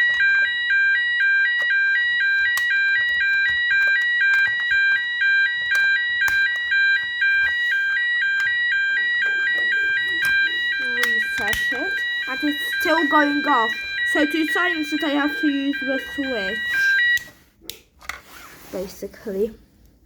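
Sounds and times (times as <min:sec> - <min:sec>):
two-tone fire alarm sounder: 0:00.0 - 0:17.4.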